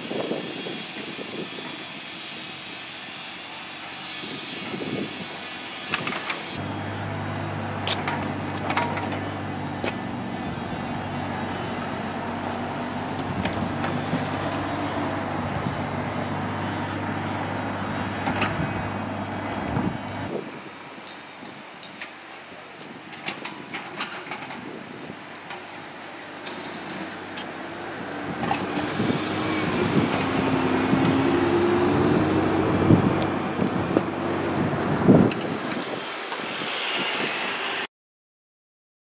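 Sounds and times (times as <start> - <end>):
diesel engine running: 1.6 - 20.4, 23.7 - 37.4.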